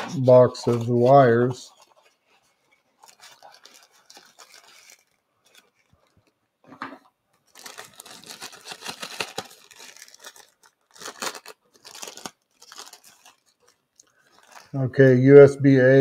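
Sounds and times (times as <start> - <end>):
plastic bag crinkling: 0.2 - 6.4, 7.3 - 14.8.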